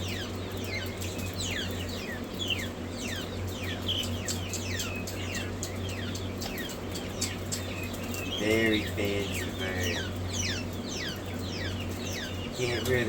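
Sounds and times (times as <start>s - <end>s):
young birds peeping: 0.0s - 13.0s.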